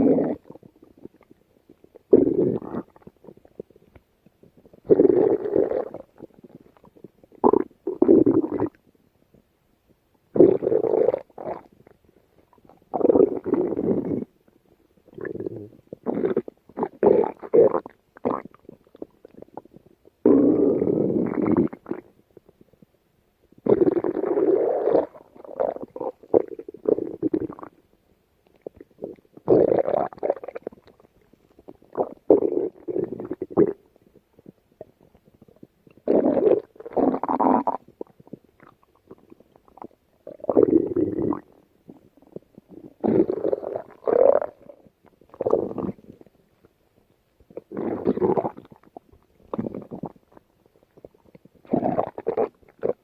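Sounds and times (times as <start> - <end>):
stomach growling and gurgling: 0.0 - 53.0.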